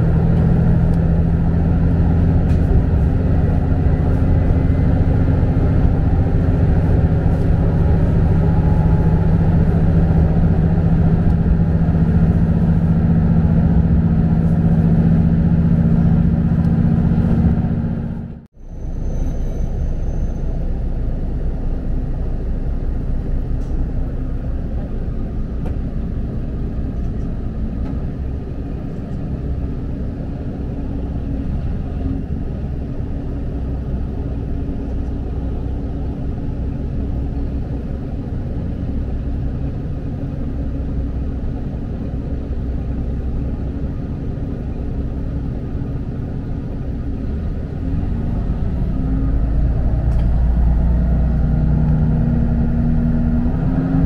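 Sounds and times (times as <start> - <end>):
railcar engine drone and rumble: 0.0 - 54.0.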